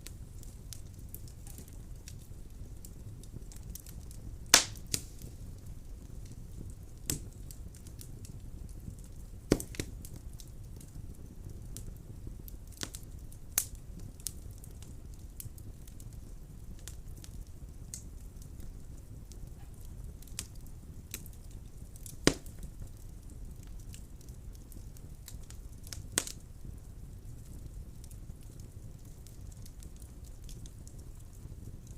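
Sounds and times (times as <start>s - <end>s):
fire crackling and popping: 0.0s - 31.9s
fire rumbling: 0.0s - 31.9s.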